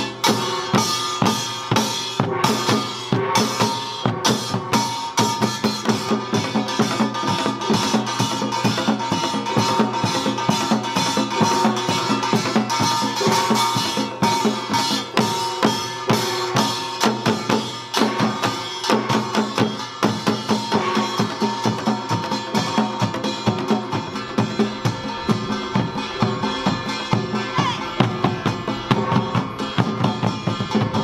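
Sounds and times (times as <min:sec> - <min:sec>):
drums playing fast rhythm: 0:00.0 - 0:31.0
gongs ringing: 0:00.0 - 0:31.0.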